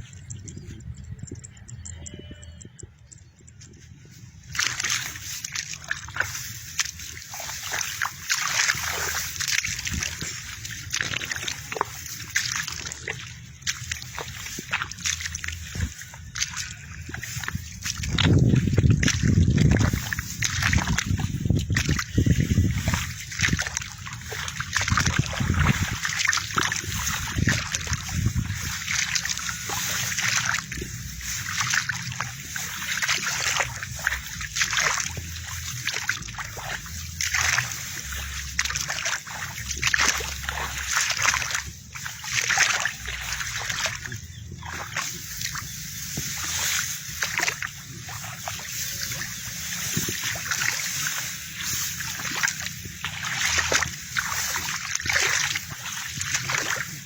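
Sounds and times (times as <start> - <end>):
water splashing from wading: 4.1 - 57.0.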